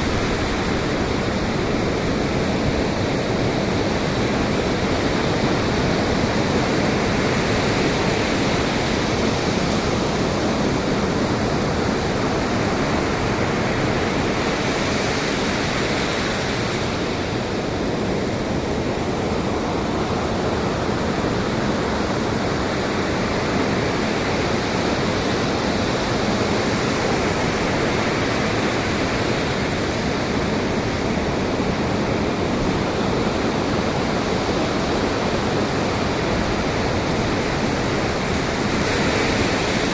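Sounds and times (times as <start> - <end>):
ocean surf washing: 0.0 - 39.9
wind: 0.0 - 39.9.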